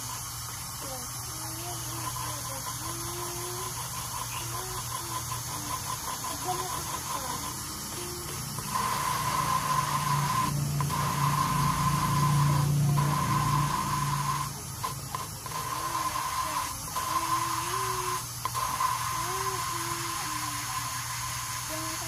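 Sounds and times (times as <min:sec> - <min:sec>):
electric grinder whining: 0:00.0 - 0:22.0.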